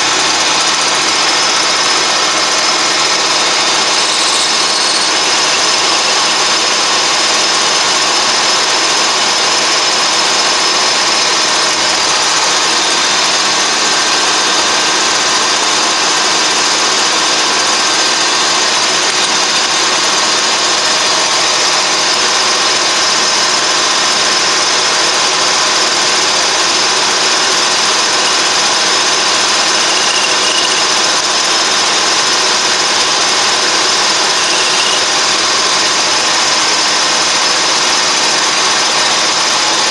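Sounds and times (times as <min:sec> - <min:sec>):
lathe mechanical whirr: 0:00.0 - 0:39.9
whining gear tones: 0:00.0 - 0:39.9.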